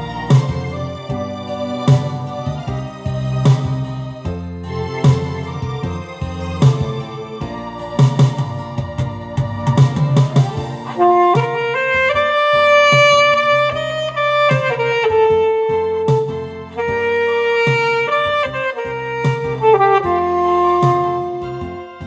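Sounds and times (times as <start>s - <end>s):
alto saxophone melody: 0.0s - 9.1s, 9.9s - 22.0s
backing track with steady beat: 0.0s - 22.0s.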